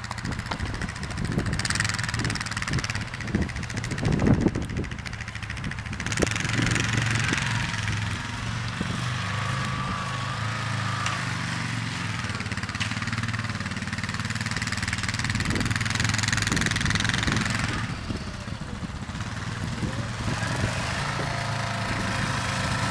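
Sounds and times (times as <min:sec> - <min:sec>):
atv engine running: 0:00.0 - 0:22.9.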